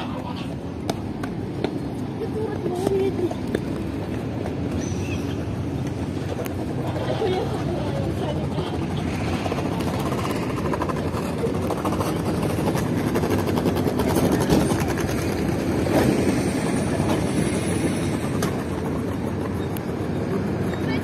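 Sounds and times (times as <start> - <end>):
tram low rumble: 0.0 - 21.0.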